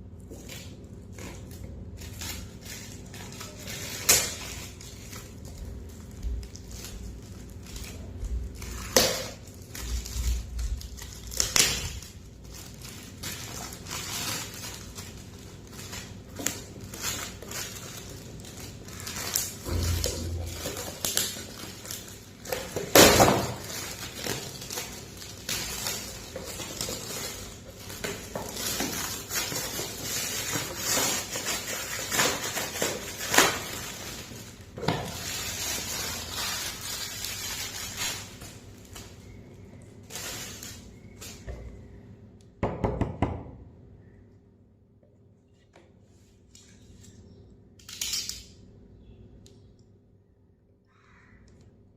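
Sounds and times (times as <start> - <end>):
packaging crinkling: 0.2 - 42.0.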